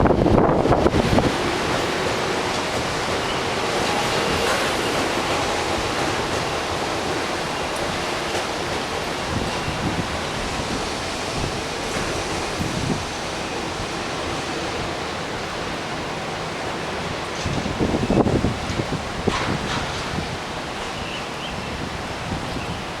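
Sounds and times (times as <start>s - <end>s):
wind and rain rushing: 0.0s - 23.0s
wind buffeting microphone: 0.0s - 23.0s.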